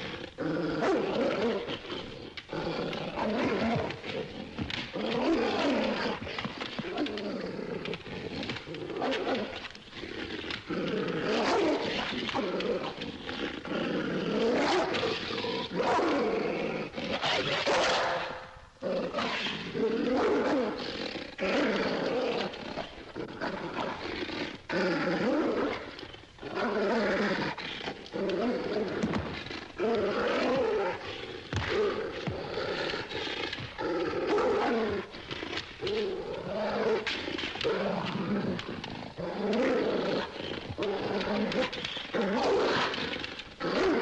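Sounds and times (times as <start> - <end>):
dog snarling and growling: 0.0 - 44.0.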